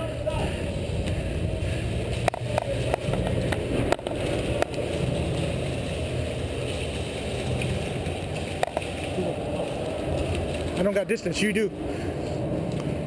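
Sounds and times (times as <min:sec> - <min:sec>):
low rumble of movement: 0:00.0 - 0:13.0.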